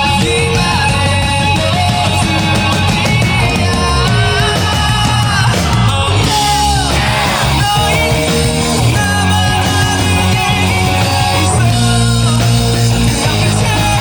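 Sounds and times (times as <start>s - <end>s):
electric guitar: 0.0s - 14.0s
rock band playing live: 0.0s - 14.0s.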